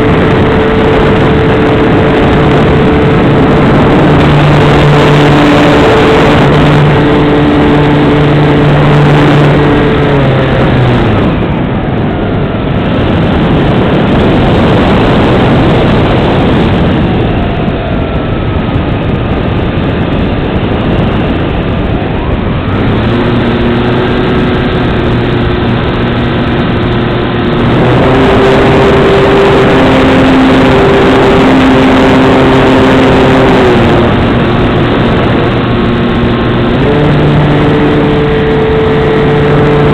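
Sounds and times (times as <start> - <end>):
propeller and motor drone: 0.0 - 39.9
wind noise: 0.0 - 39.9.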